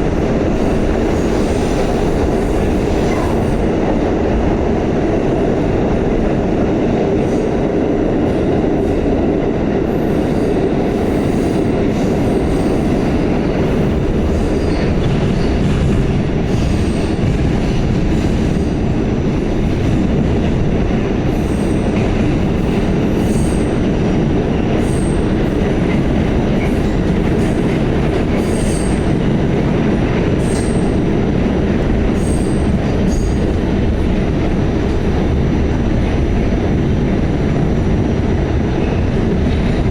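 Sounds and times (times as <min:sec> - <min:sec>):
subway wheels rumbling on rail: 0:00.0 - 0:39.9.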